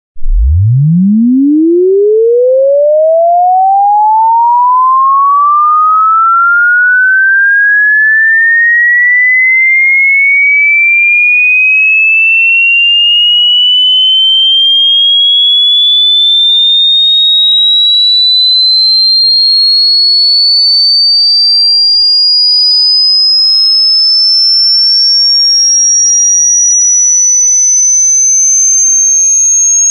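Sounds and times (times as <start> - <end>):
rising sine tone sweep: 0.2 - 29.9.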